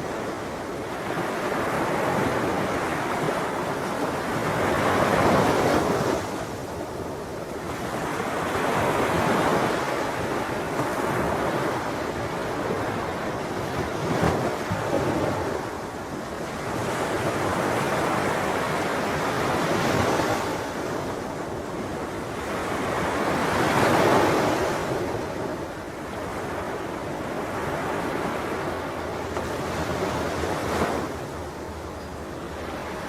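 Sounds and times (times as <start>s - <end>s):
ocean waves breaking on shore: 0.0s - 33.0s.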